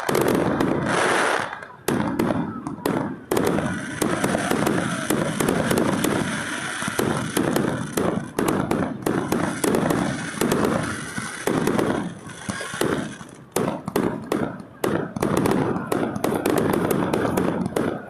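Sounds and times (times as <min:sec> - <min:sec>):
fireworks cracking and banging: 0:00.0 - 0:18.0.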